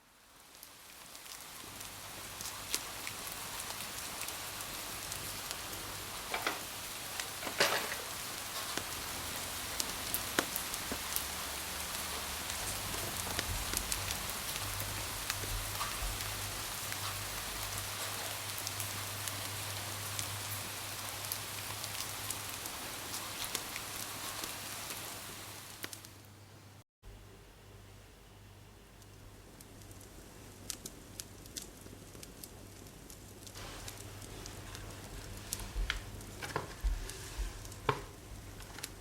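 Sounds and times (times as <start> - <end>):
rain patter: 0.0 - 26.4, 28.8 - 39.0.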